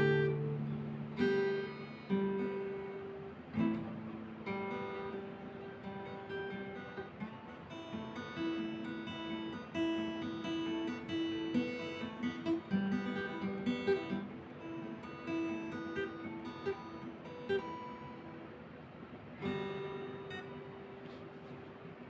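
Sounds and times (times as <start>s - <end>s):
acoustic guitar slow melody: 0.0s - 22.0s.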